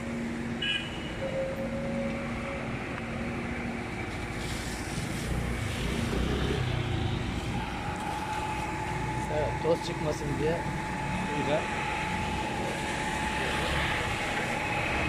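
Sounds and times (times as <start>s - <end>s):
street noise: 0.0s - 15.0s
heavy diesel machinery running: 1.4s - 15.0s.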